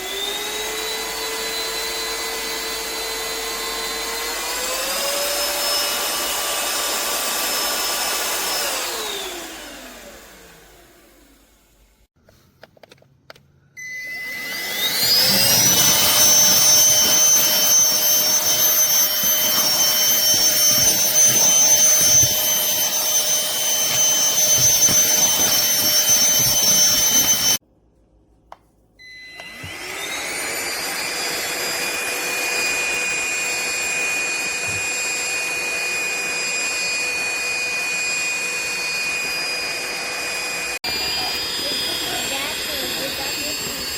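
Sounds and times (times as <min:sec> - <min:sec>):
handheld vacuum motor whining: 0:00.0 - 0:11.8, 0:13.8 - 0:27.6, 0:29.0 - 0:43.9.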